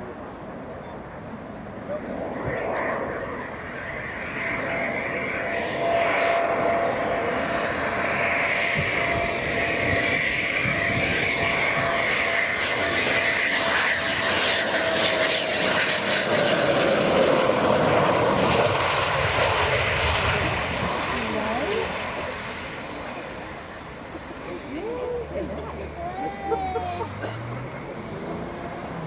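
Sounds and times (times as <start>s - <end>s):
aircraft engine whine: 0.0s - 29.0s
aircraft engines flying past: 0.0s - 29.0s.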